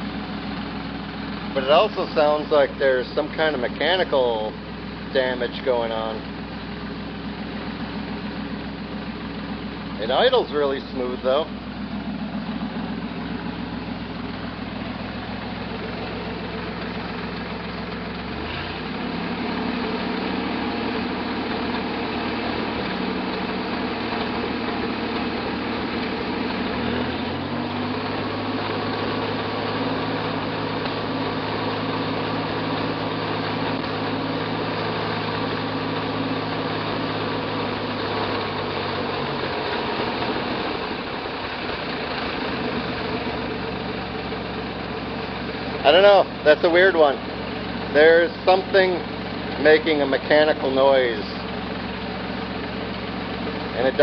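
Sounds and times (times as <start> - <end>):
car engine idling with misfire: 0.0 - 54.0
engine mechanical noise: 0.0 - 54.0.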